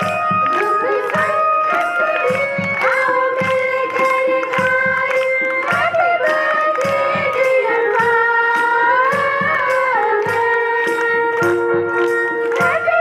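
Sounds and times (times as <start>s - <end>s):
instrumental music with steady beat: 0.0s - 13.0s
girls singing in unison: 0.5s - 11.6s.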